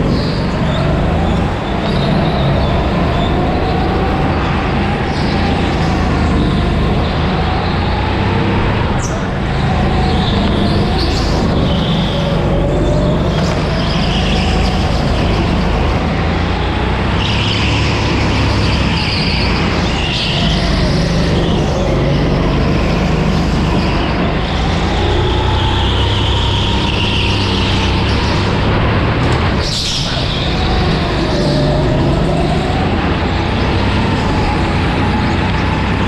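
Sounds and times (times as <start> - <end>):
go-kart engine running: 0.0 - 36.0.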